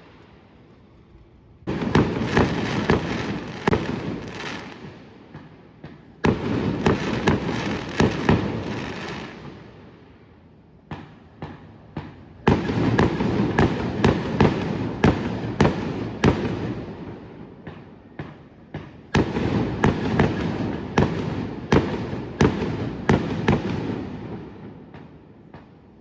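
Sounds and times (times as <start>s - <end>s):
fireworks bangs: 0.0s - 9.9s, 10.8s - 26.0s
fireworks crackling rumble: 0.0s - 26.0s.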